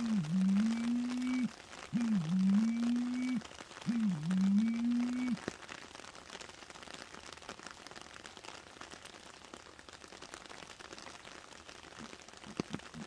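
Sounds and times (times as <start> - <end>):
light rain on leaf litter: 0.0 - 13.0.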